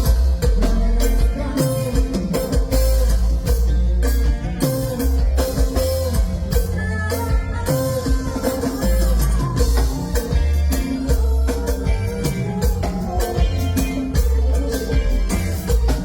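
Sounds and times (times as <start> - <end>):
drums with cymbal hits: 0.0 - 16.0
electric guitar: 0.0 - 16.0
heavy bass line: 0.0 - 16.0.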